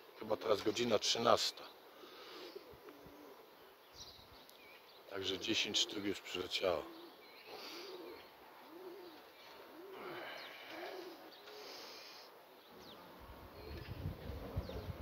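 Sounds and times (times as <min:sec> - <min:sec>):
pigeons cooing: 0:01.8 - 0:04.2, 0:05.2 - 0:15.0.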